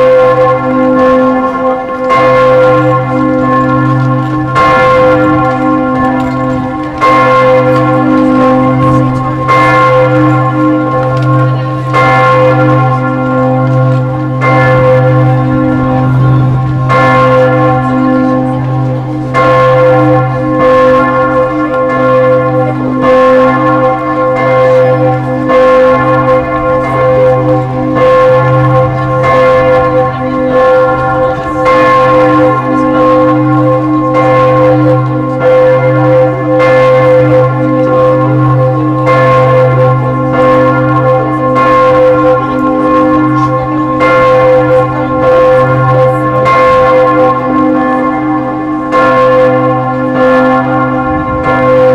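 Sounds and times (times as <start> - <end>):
church bells ringing: 0.0 - 51.9.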